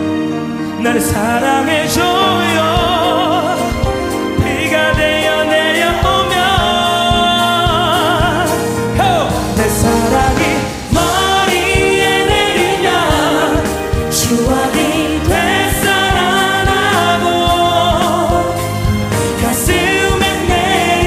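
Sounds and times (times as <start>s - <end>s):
string orchestra: 0.0s - 21.0s
man singing with vibrato: 0.6s - 21.0s
steady drum hits: 3.7s - 21.0s.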